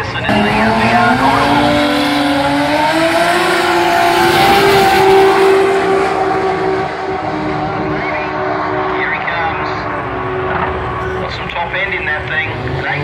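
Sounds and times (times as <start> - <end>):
drag car engine at full throttle: 0.0 - 13.0.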